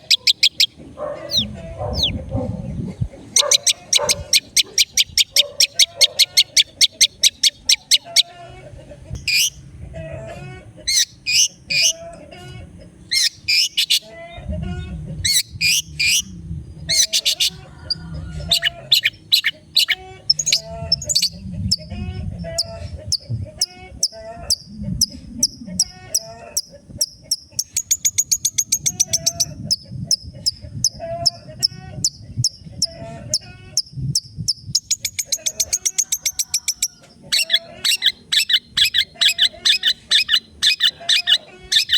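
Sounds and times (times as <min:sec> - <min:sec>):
shrike singing harsh chatter: 0:00.0 - 0:41.9.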